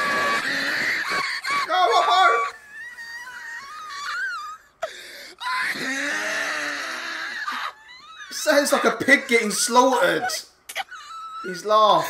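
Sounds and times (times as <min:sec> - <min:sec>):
man laughing high-pitched wail: 0:00.0 - 0:04.8, 0:05.4 - 0:12.0.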